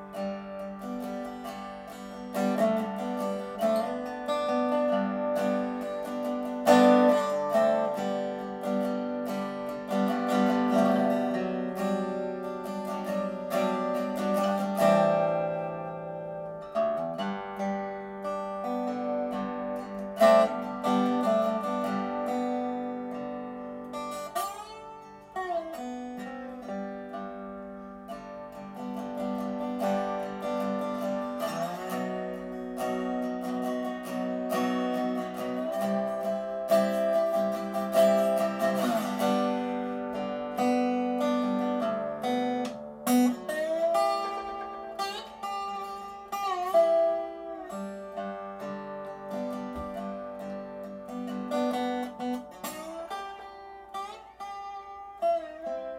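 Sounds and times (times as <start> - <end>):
guitar chords: 0.0 - 55.9.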